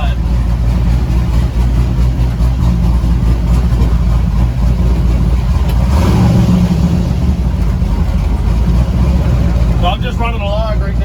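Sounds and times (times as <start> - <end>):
v eight engine running: 0.0 - 11.0.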